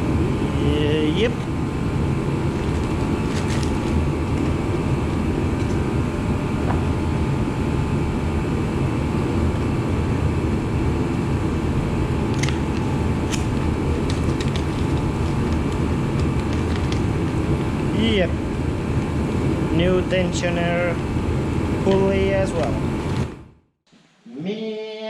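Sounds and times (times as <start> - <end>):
low rumbling background noise: 0.0 - 23.6.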